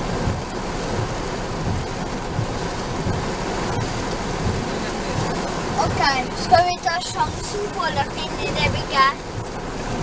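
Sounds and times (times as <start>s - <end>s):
heavy rain on a car: 0.0s - 10.0s
low pulsing rumble: 0.0s - 10.0s
windshield wipers sweeping: 0.0s - 10.0s.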